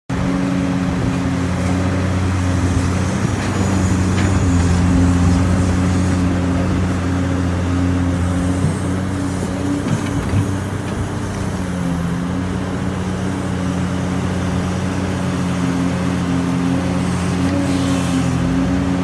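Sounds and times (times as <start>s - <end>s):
bulldozer diesel engine running: 0.1s - 19.0s.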